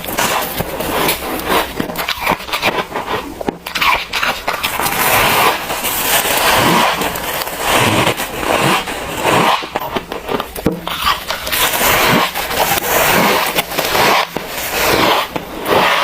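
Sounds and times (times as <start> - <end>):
frost crunching: 0.0 - 15.8.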